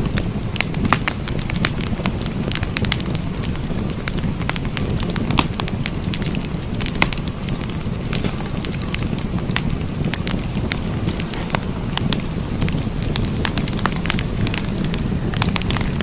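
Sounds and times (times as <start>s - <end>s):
fire popping: 0.0s - 16.0s
low rush of burning: 0.0s - 16.0s
wood fire crackling: 0.0s - 16.0s.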